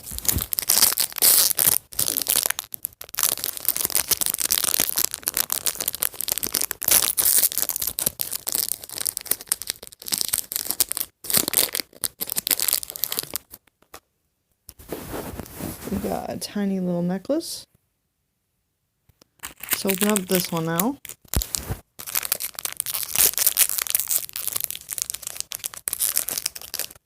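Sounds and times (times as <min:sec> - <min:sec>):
plastic wrapper crinkling: 0:00.0 - 0:14.0, 0:19.2 - 0:27.0.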